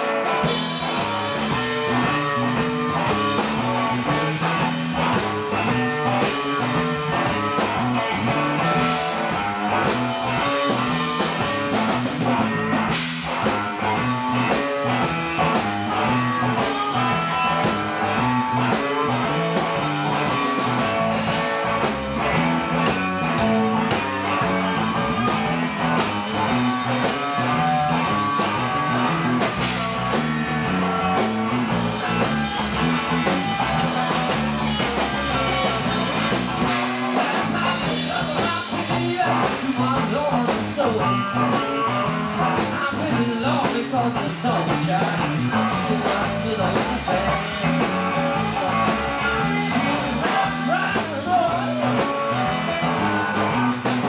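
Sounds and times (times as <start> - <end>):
distorted electric guitars: 0.0 - 54.0
drum kit snare and cymbal hits: 0.0 - 54.0.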